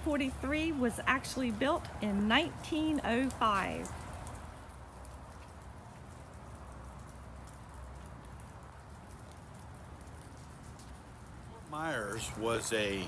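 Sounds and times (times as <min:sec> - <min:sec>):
light rain hiss: 0:00.0 - 0:13.0
raindrop ticks: 0:00.0 - 0:13.0.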